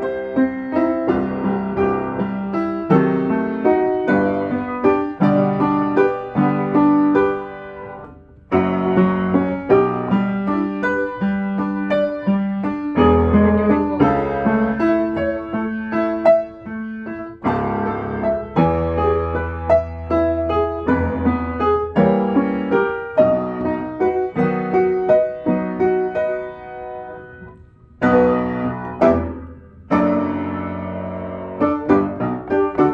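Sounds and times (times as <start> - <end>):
deep bass piano notes: 0.0 - 32.9
slow piano melody: 0.0 - 32.9.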